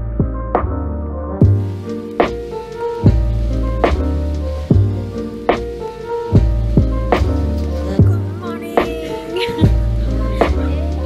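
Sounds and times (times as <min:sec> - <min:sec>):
music with drums and bass: 0:00.0 - 0:11.0.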